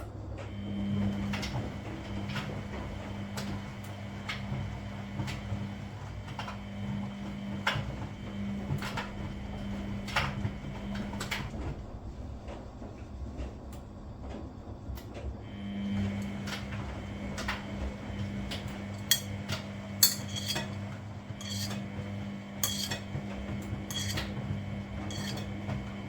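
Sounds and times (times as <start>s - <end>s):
washing machine motor humming: 0.4s - 26.0s.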